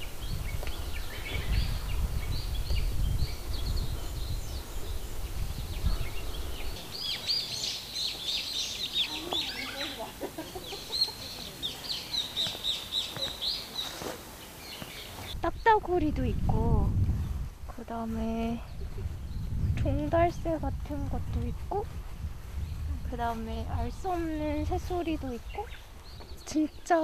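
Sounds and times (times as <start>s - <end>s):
birds chirping: 0.0s - 16.5s, 17.8s - 27.0s.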